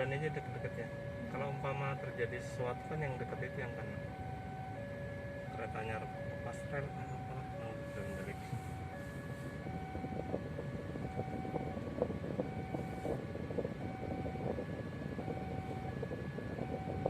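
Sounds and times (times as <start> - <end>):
rumble of waiting vehicles: 0.0 - 17.0.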